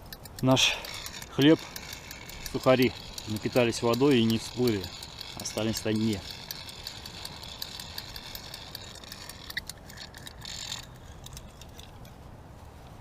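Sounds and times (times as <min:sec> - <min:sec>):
fishing reel ticking: 0:00.0 - 0:12.1.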